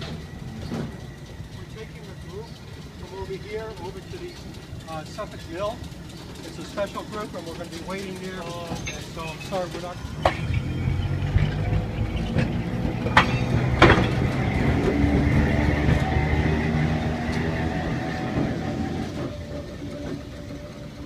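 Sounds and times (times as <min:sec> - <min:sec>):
streetcar rolling on rails: 0:00.0 - 0:21.0.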